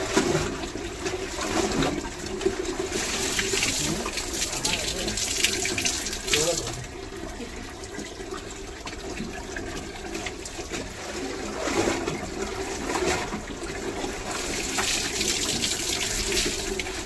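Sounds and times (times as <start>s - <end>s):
tap water pouring into tub: 0.0s - 17.0s
water splashing: 0.0s - 17.0s.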